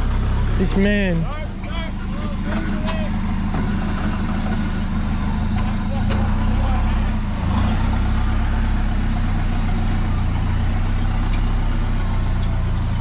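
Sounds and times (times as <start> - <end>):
truck engine idling low: 0.0 - 13.0.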